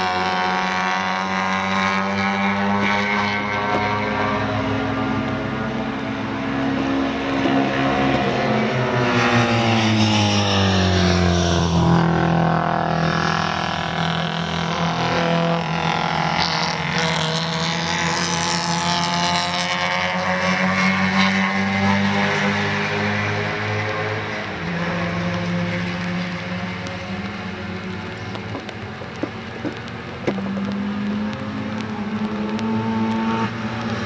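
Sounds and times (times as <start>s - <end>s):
race car engines running hard: 0.0s - 34.0s.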